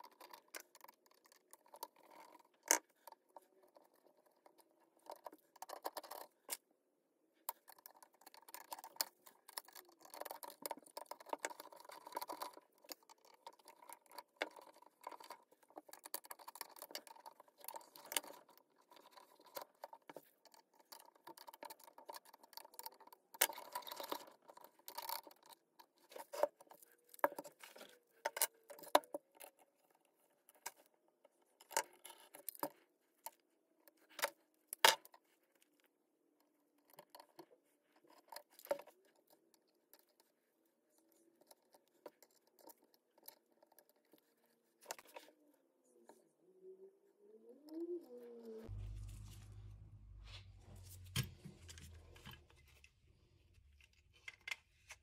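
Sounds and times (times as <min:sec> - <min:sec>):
small hard parts clicking and tapping: 0:00.0 - 0:06.7, 0:07.4 - 0:45.4.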